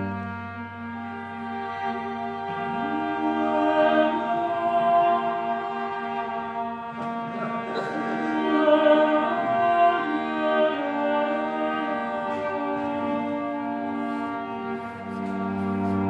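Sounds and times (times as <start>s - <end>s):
cello bowed notes: 0.0s - 16.0s.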